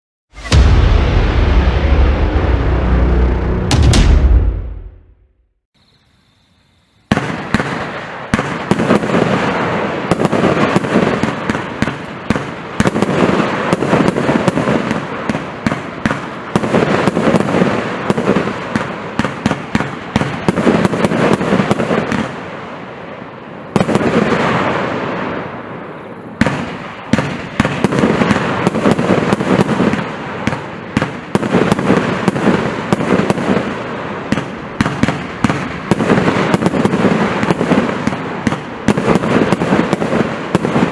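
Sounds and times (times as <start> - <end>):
fireworks rapid bangs and crackling: 7.1 - 40.9.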